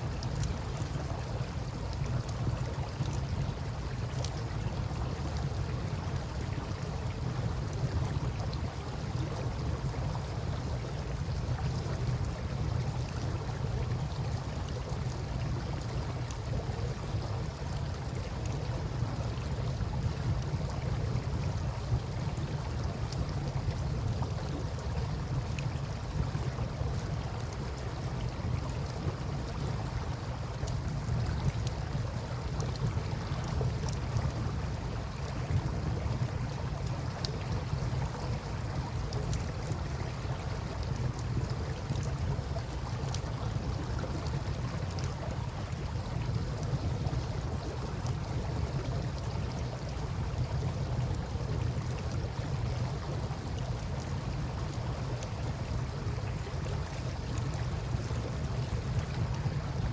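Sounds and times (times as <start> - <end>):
faint campfire crackles: 0.0 - 59.9.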